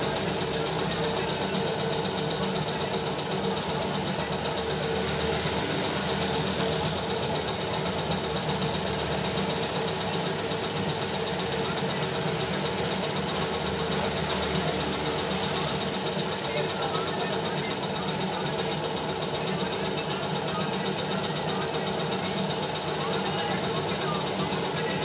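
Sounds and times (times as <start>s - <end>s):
spray gun hissing: 0.0s - 17.6s, 22.0s - 25.0s
air compressor knocking: 0.0s - 25.0s.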